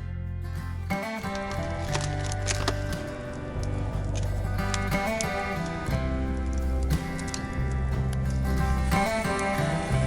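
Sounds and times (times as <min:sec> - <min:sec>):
bass line: 0:00.0 - 0:10.0
country acoustic guitar music: 0:00.0 - 0:10.0.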